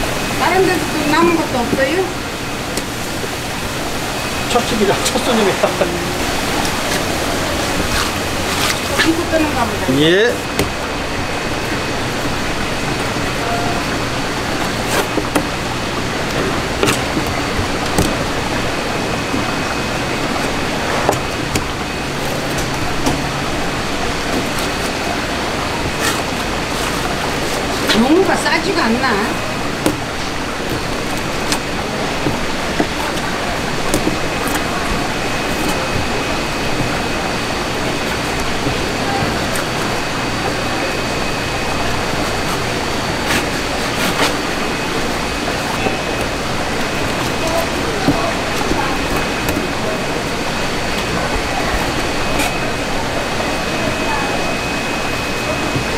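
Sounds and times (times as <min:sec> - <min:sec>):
busy shop background hiss: 0:00.0 - 0:55.9.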